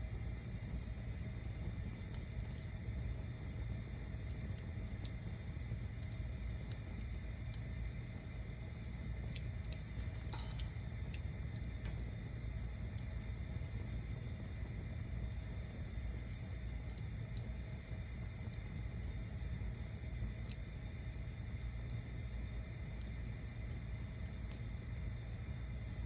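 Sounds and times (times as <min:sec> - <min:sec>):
crackles and pops of burning wood: 0:00.0 - 0:26.0
low rumble of flame: 0:00.0 - 0:26.0.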